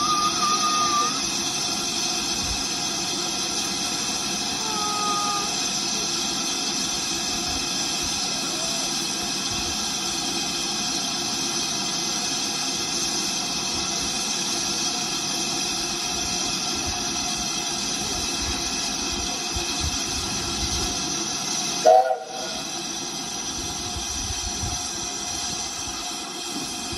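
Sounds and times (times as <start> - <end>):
steam hissing from locomotive: 0.0 - 26.9.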